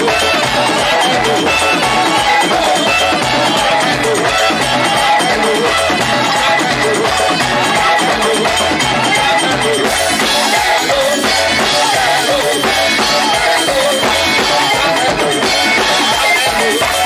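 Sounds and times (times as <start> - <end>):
drum kit playing a busy beat: 0.0 - 17.0.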